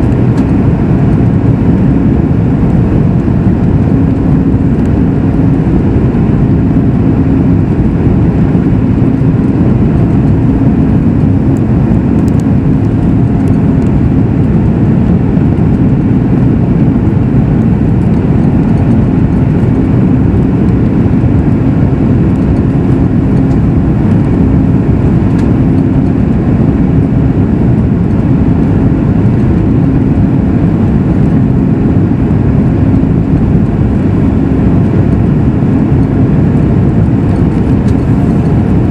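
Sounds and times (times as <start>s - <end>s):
cabin airflow: 0.0s - 38.9s
faint steady hum: 0.0s - 38.9s
jet engine rumble: 0.0s - 38.9s.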